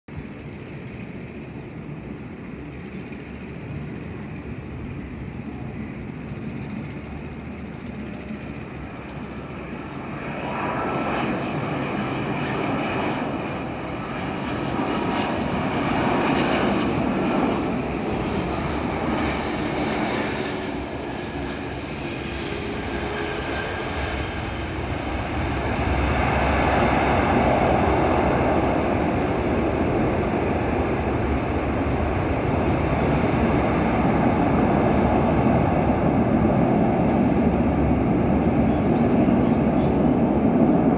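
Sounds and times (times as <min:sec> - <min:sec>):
jet engine rumble: 0:00.1 - 0:40.9.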